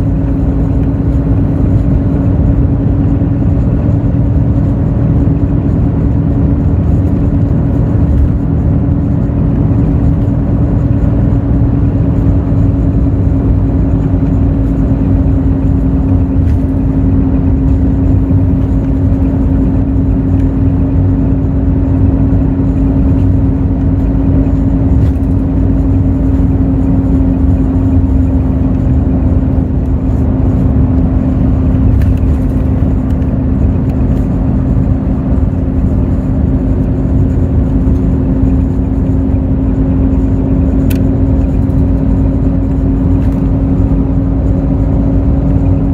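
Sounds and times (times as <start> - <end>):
bus diesel engine rumbling: 0.0 - 45.9.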